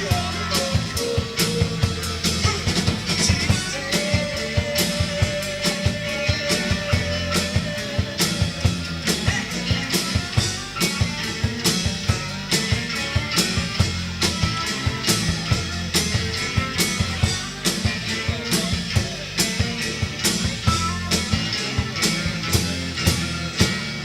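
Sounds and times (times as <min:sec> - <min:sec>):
drum kit beat: 0:00.0 - 0:24.0
electric guitar: 0:00.0 - 0:24.0.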